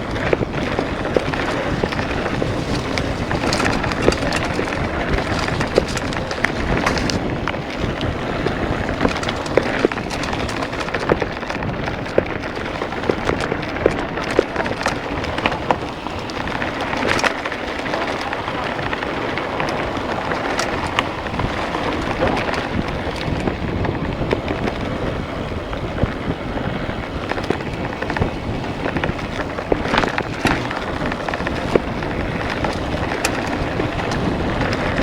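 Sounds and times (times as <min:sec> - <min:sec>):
sharp clicks and rattles: 0:00.0 - 0:35.0
steady rushing noise: 0:00.0 - 0:35.0.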